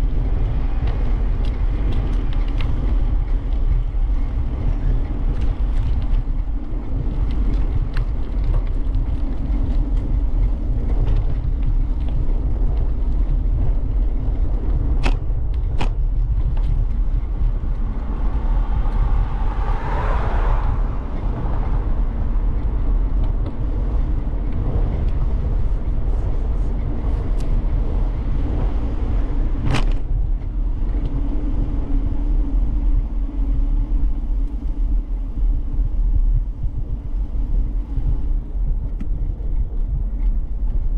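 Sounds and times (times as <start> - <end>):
bicycle tyre noise on path: 0.0 - 40.9
wind on microphone: 0.0 - 40.9.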